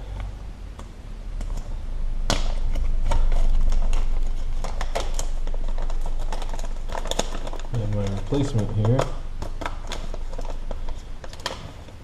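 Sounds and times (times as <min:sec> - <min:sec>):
laptop parts clicking and tapping: 0:02.3 - 0:12.0.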